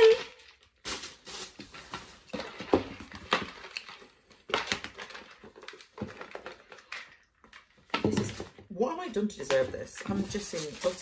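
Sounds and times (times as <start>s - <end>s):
paper and plastic packaging rustling: 0.0s - 8.6s, 9.4s - 11.0s.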